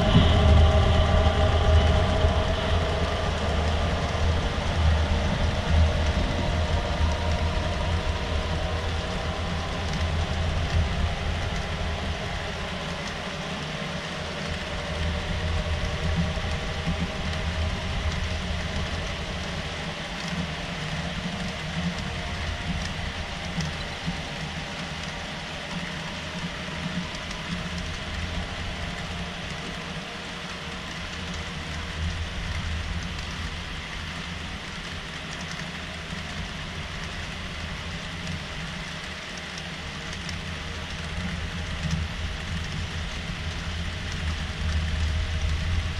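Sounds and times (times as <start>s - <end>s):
low even hum: 0.0s - 45.9s.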